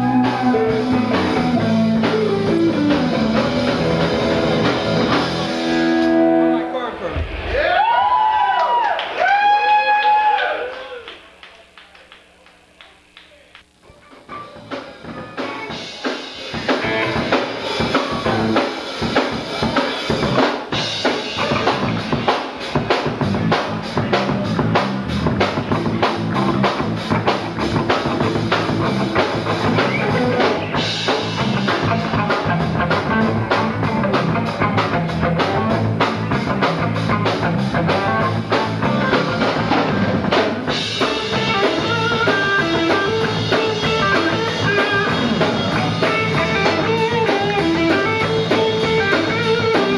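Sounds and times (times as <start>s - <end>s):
electric guitar: 0.0s - 7.8s, 10.4s - 49.9s
drum kit beat: 0.0s - 9.2s, 10.9s - 49.9s
bass line: 0.0s - 9.3s, 16.7s - 49.9s.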